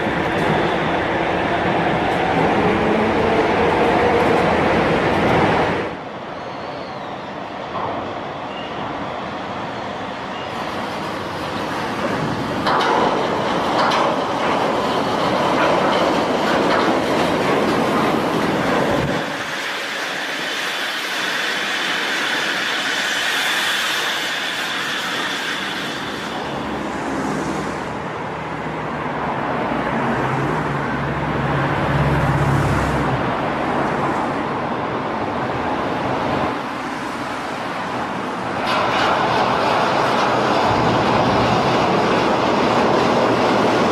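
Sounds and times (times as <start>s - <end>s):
train rushing rail noise: 0.0s - 43.9s.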